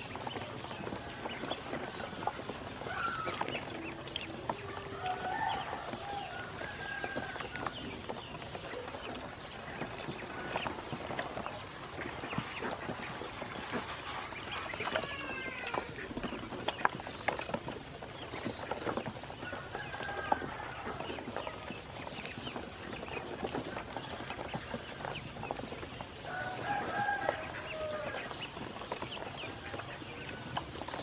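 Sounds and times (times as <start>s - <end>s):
ducklings peeping: 0.0s - 31.0s
ducklings splashing in water: 0.0s - 31.0s.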